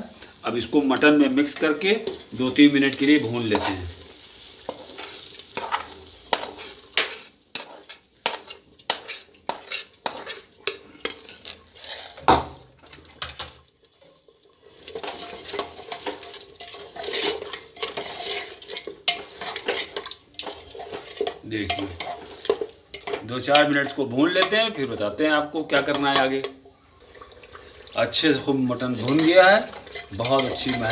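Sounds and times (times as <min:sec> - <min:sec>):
food sizzling in oil: 0:00.0 - 0:30.9
metal spatula scraping a pan: 0:00.8 - 0:26.6, 0:27.6 - 0:30.9.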